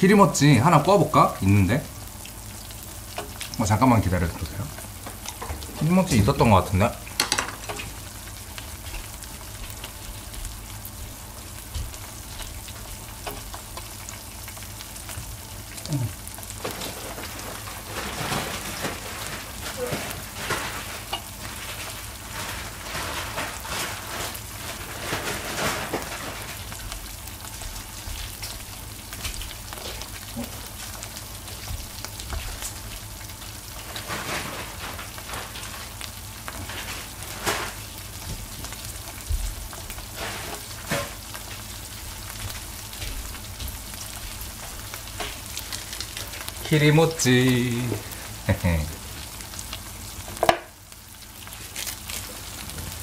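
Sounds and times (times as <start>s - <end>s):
cheese sizzling on a griddle: 0.0s - 53.0s.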